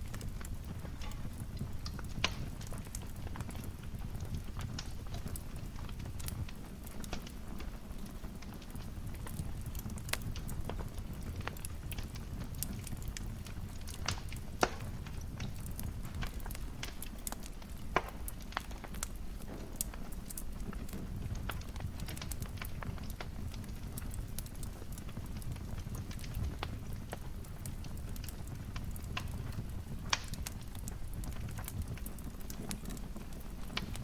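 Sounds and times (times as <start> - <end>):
fire popping and snapping: 0.0 - 34.0
wood fire crackling: 0.0 - 34.0.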